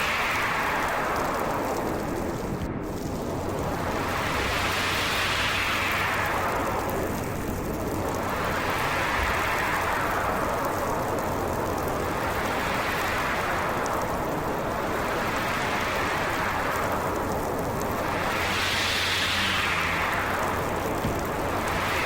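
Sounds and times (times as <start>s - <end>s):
howling storm wind: 0.0s - 22.0s.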